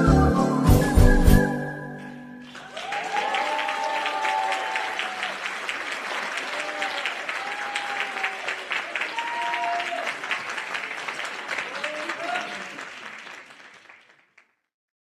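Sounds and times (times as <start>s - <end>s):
audience applauding: 2.0s - 14.6s.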